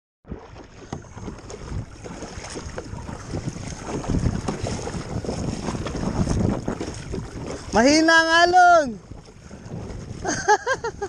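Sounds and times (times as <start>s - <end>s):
water sloshing around kayak: 0.2s - 11.0s
wind buffeting microphone: 0.3s - 11.0s.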